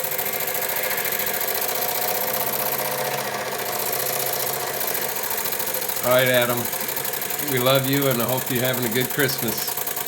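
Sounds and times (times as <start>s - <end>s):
toy steam engine chattering: 0.0s - 10.0s.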